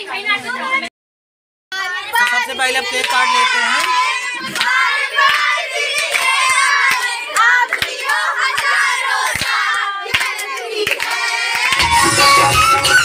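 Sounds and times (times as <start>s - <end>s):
group singing: 1.8s - 13.0s
hands clapping: 2.2s - 13.0s.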